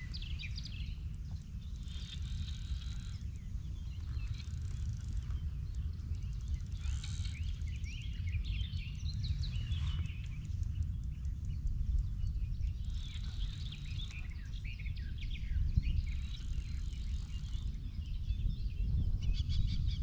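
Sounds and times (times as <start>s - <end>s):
songbirds chirping and warbling: 0.0s - 20.0s
steady low rumble: 0.0s - 20.0s.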